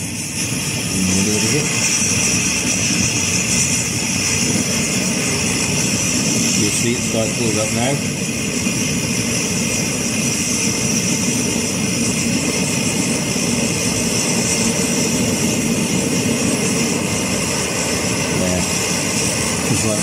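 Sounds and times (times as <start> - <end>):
camp stove burner hissing: 0.0 - 20.0.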